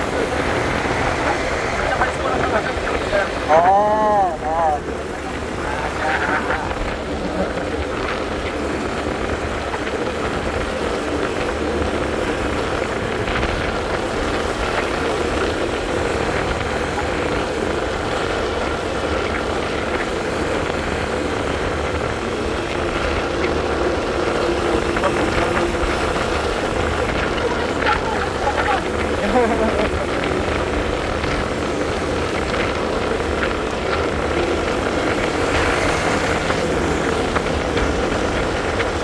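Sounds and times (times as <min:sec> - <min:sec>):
scooter engine running: 0:00.0 - 0:39.0
wind rush on microphone: 0:00.0 - 0:39.0.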